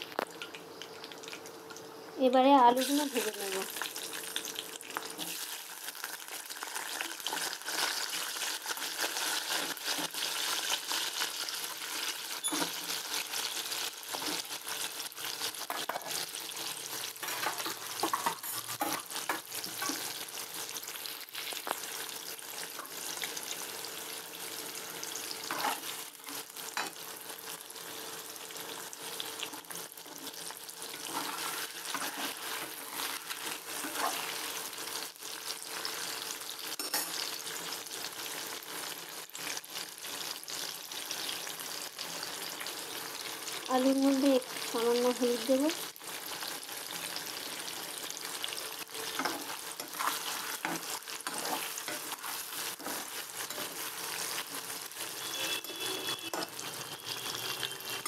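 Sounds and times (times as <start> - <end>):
potatoes sizzling in hot oil: 0.0 - 58.0.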